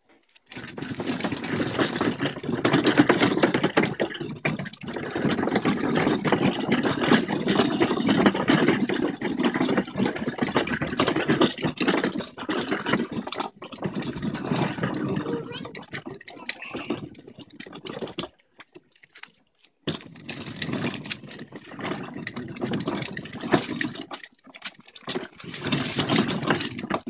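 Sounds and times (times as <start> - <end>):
plastic wheels rolling on concrete: 0.0 - 27.0.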